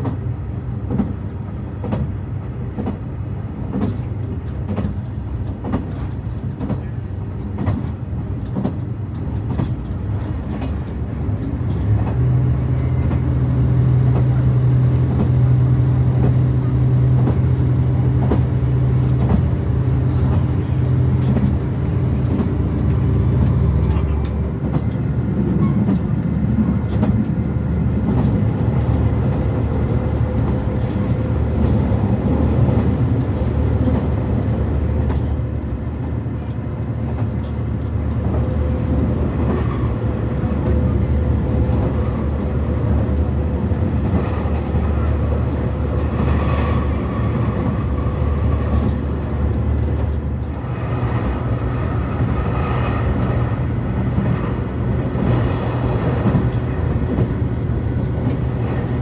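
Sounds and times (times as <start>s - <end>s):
train engine and wheels rumbling: 0.0s - 59.0s.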